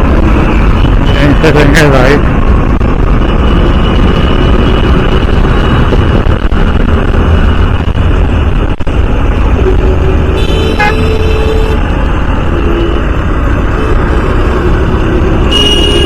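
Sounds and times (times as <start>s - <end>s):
wind and road noise on motorcycle: 0.0s - 16.0s.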